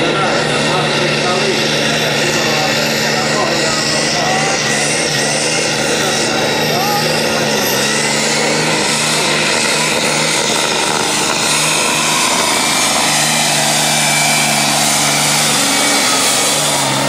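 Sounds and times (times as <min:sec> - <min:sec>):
rushing exhaust noise: 0:00.0 - 0:17.0
tractor diesel engine at full load: 0:00.0 - 0:17.0.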